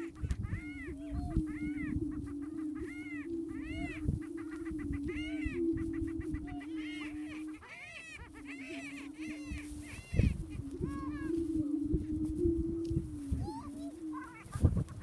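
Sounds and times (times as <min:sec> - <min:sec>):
birds booming low drone: 0:00.0 - 0:15.0
birds cackling and whooping: 0:00.0 - 0:15.0.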